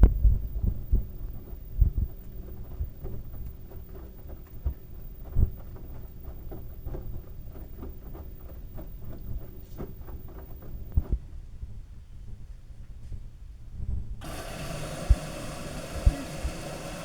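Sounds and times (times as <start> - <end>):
washing machine drum tumbling: 0.0 - 11.2, 14.2 - 17.0.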